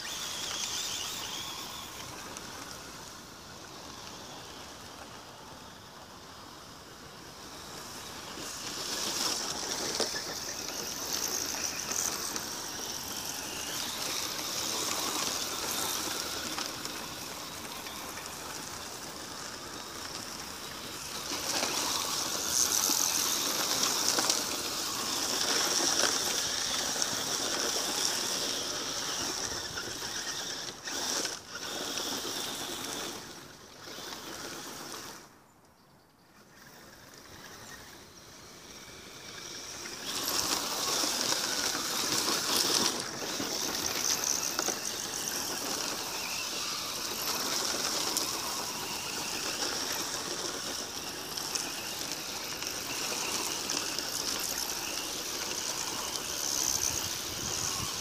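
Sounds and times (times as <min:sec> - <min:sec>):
electric motor high whine: 0:00.0 - 0:35.5, 0:36.4 - 0:58.0
tyres sliding on loose dirt: 0:00.0 - 0:35.5, 0:36.3 - 0:58.0.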